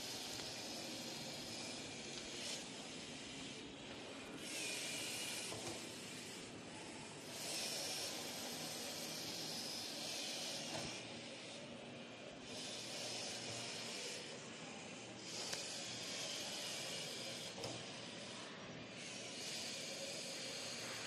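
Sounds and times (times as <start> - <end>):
small electric motors whirring: 0.0 - 21.0.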